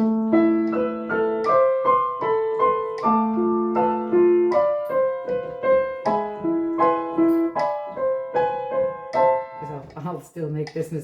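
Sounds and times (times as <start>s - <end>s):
piano playing: 0.0s - 10.0s.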